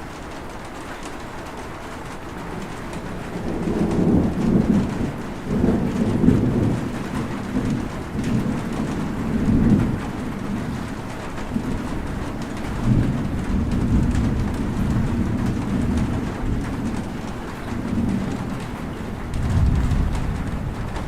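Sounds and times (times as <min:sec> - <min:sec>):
steady rain: 0:00.0 - 0:21.0
rolling thunder: 0:02.1 - 0:21.0.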